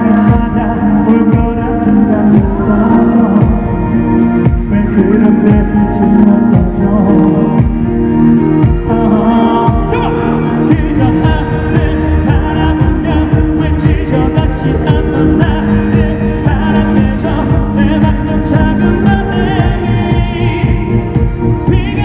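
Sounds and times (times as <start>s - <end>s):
man singing live: 0.0s - 22.0s
pop ballad band over sound system: 0.0s - 22.0s.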